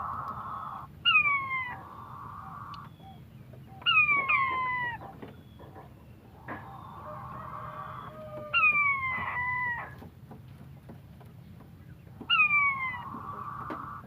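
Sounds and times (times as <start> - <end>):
quail calling: 0.0 - 10.0, 12.2 - 14.0.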